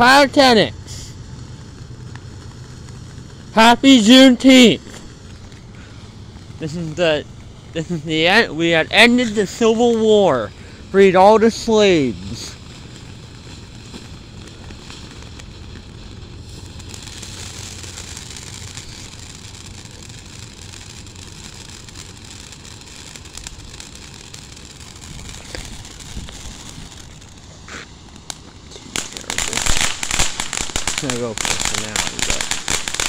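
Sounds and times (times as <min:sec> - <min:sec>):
firework fountain hissing and crackling: 0:00.0 - 0:33.0.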